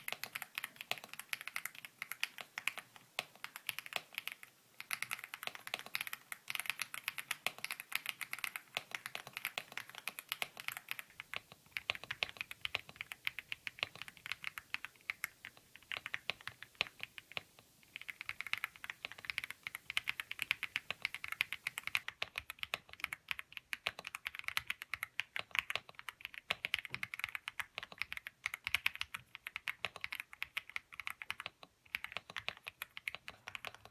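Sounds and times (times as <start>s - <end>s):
fast keyboard typing clicks: 0.0s - 33.9s.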